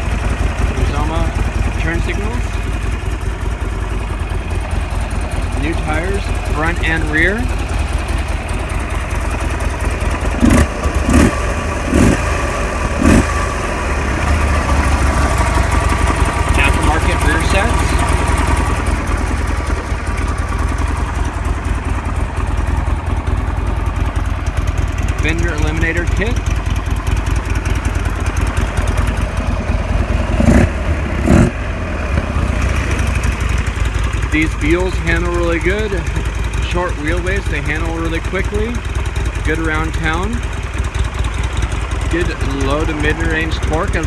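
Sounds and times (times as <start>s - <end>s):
motorcycle engine idling: 0.0s - 44.0s
motorcycle throttle blips: 0.0s - 44.0s.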